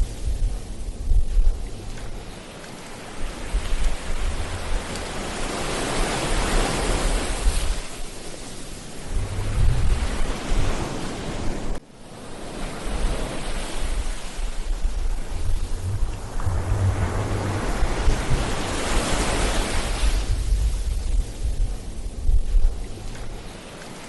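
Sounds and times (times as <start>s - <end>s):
wind buffeting the microphone: 0.0s - 11.8s, 12.6s - 24.0s
ocean surf on a beach: 0.0s - 24.0s.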